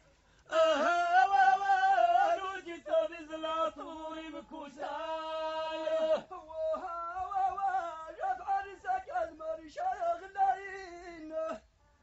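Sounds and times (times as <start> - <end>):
man chanting: 0.5 - 11.7.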